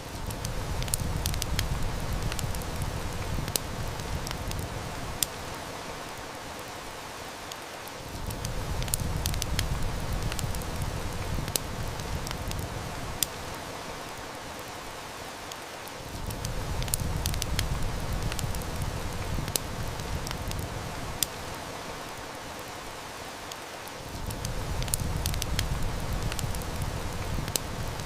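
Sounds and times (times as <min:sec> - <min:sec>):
heavy rain hiss: 0:00.0 - 0:28.0
wood fire crackling: 0:00.0 - 0:28.0.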